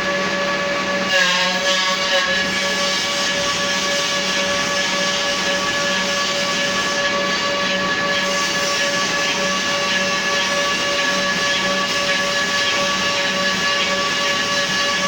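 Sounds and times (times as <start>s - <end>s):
spindle high whine: 0.0s - 15.0s.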